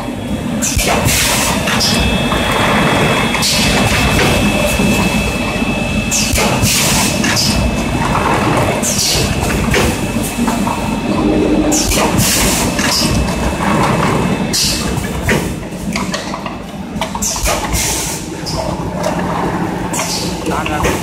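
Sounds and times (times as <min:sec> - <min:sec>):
machine rumble and clatter: 0:00.0 - 0:21.0.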